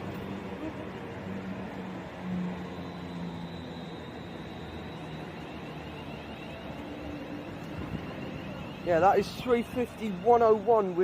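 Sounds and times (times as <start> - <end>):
faint high wavering whine: 0.0 - 11.0
train running noise: 0.0 - 11.0.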